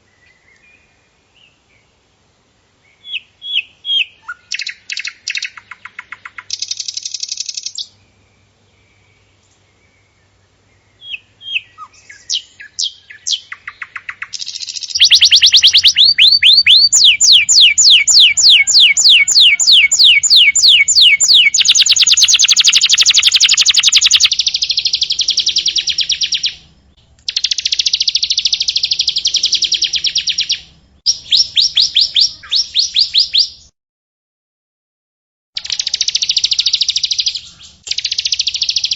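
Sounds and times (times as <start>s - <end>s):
songbird chirps and trills: 0.0s - 2.1s, 2.7s - 33.7s, 35.6s - 38.9s.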